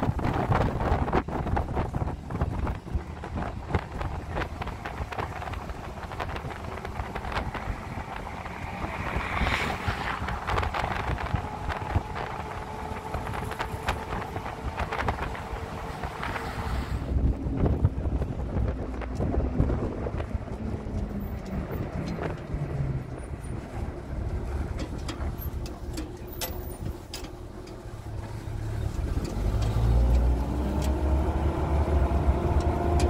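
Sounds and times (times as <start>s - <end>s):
pickup truck road noise: 0.0s - 33.0s
wind buffeting microphone: 0.0s - 33.0s.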